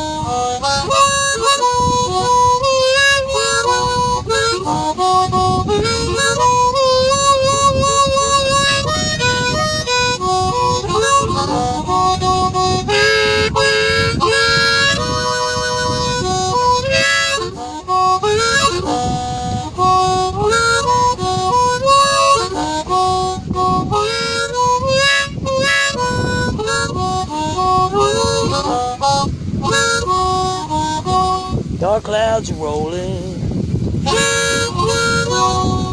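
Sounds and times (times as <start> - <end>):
blues harmonica solo: 0.0 - 31.8, 34.0 - 35.9.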